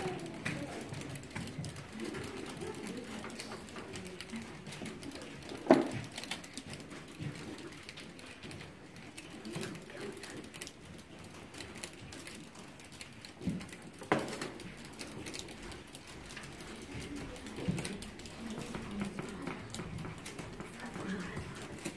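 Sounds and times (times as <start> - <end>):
abacus beads clicking: 0.0 - 21.9.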